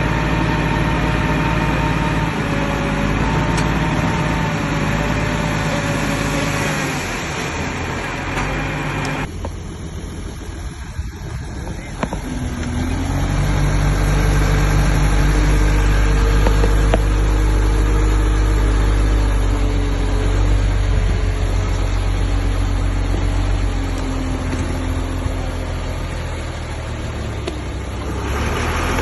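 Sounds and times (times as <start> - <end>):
bulldozer diesel engine working: 0.0 - 29.0.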